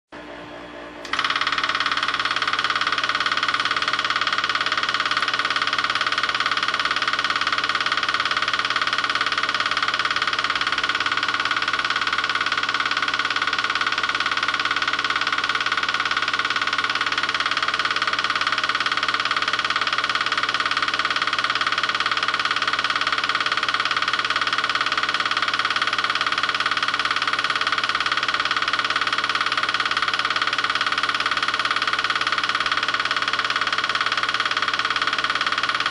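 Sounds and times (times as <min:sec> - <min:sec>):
film projector running: 0:01.0 - 0:35.9.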